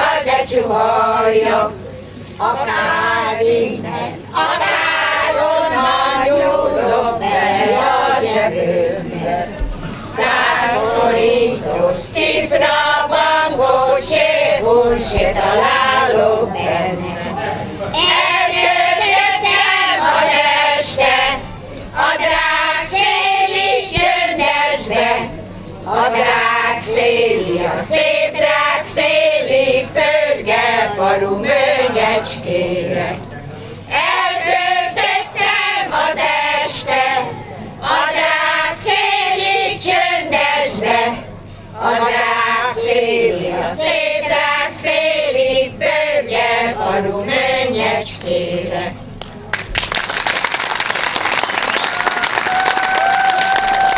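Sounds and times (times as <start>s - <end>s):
women's choir singing: 0.0s - 49.1s.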